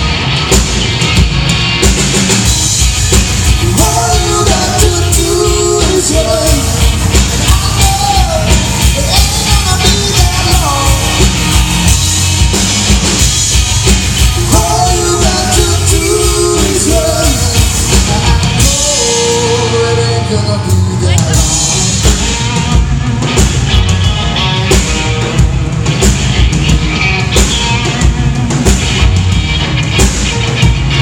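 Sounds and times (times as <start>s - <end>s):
drum kit beat: 0.0s - 20.0s, 20.7s - 31.0s
live rock band playing: 0.0s - 31.0s.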